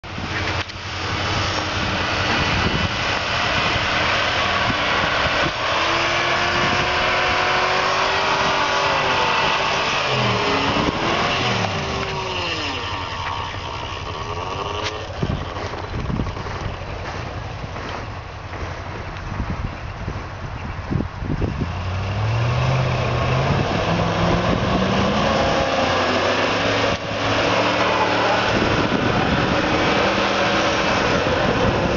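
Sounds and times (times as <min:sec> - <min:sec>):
truck engine revving: 0:00.0 - 0:19.4, 0:21.3 - 0:31.9.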